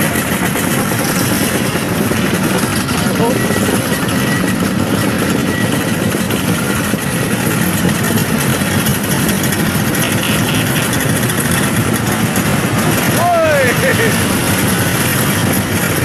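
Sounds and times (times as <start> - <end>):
scooter engines droning: 0.0 - 16.0.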